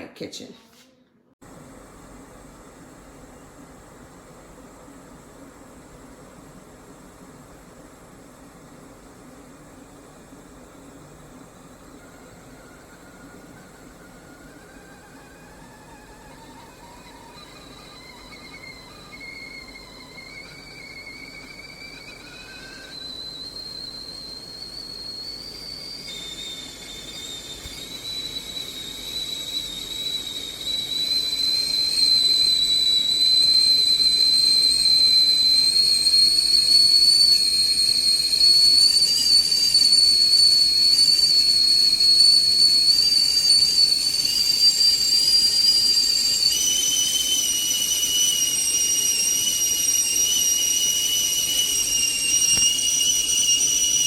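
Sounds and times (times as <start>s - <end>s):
kettle whistling: 1.4s - 54.0s.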